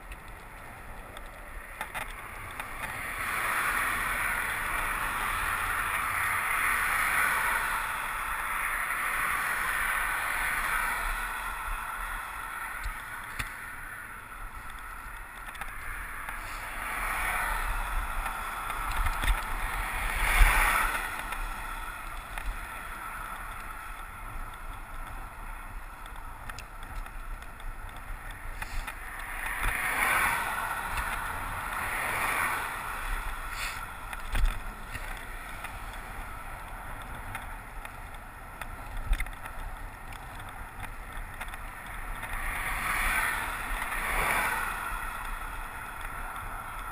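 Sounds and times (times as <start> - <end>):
bicycle road noise: 0.0 - 46.9
vehicles passing: 0.0 - 46.9
wind rumble on microphone: 0.0 - 46.9.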